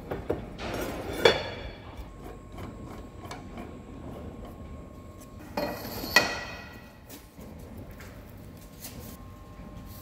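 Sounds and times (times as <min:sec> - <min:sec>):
workshop background noise: 0:00.0 - 0:10.0.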